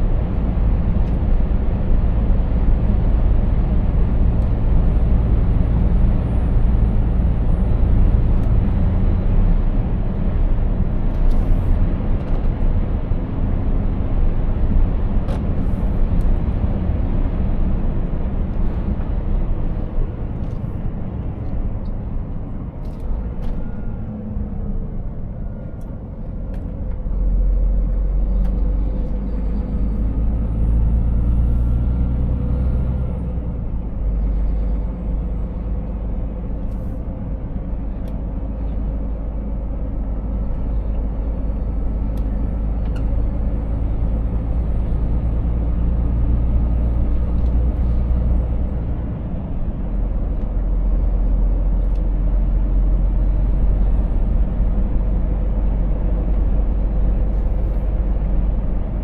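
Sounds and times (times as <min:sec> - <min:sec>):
road noise: 0:00.0 - 0:59.0
truck diesel engine drone: 0:00.0 - 0:59.0.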